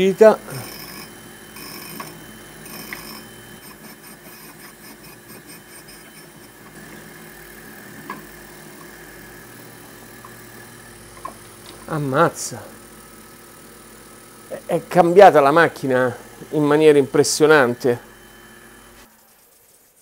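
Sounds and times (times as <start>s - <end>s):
grinder motor humming: 0.0s - 19.7s.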